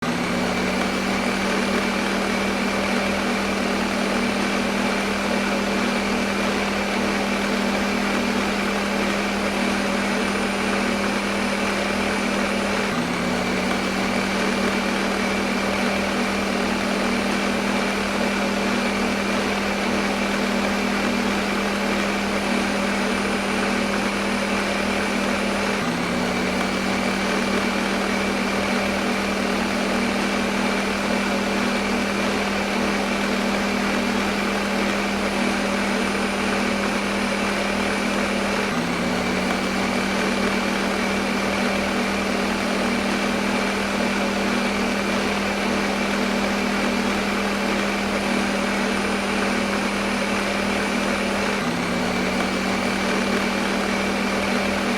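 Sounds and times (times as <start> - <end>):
blender motor whirring: 0.0 - 54.9.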